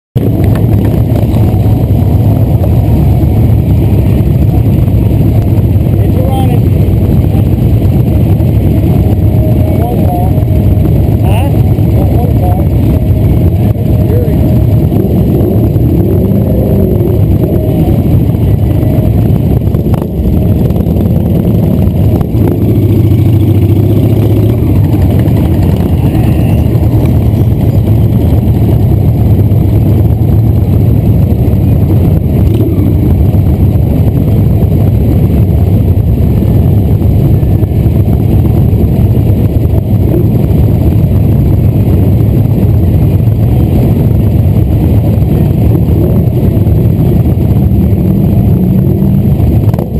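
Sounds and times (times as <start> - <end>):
motorcycle engines rumbling: 0.2 - 49.9.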